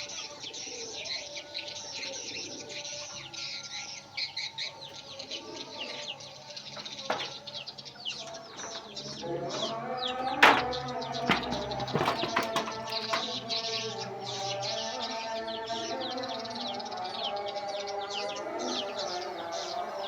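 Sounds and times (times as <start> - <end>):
small birds chirping: 0.0 - 20.0
chickens clucking: 2.0 - 20.0.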